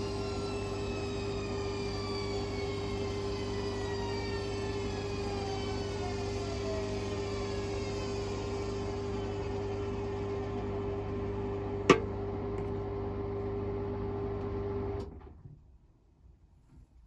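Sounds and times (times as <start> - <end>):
washing machine humming: 0.0 - 15.2.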